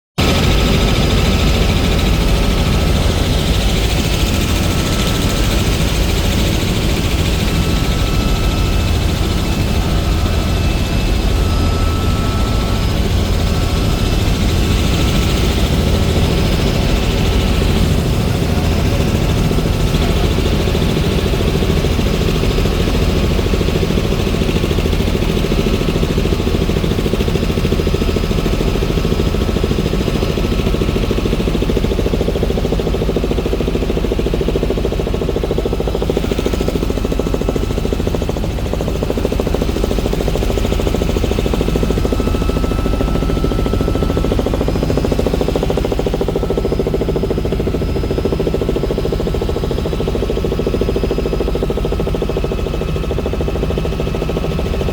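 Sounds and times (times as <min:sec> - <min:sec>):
helicopter rotor and engine: 0:00.2 - 0:54.9.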